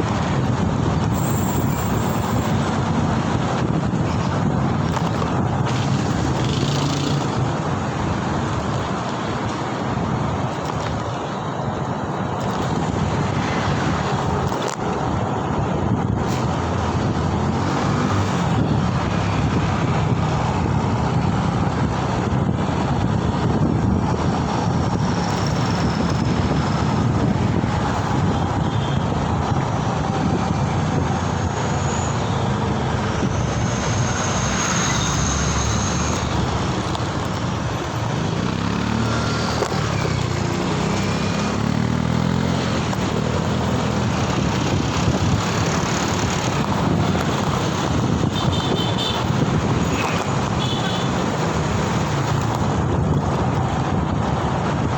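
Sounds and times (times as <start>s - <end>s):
engine and tyre noise: 0.0s - 54.9s
road traffic noise: 0.0s - 54.9s.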